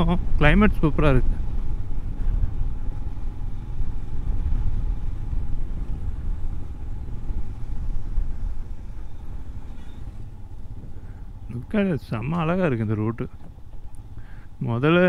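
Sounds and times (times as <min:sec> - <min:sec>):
faint steady hum: 0:00.0 - 0:15.0
vehicle road and wind noise: 0:00.0 - 0:15.0.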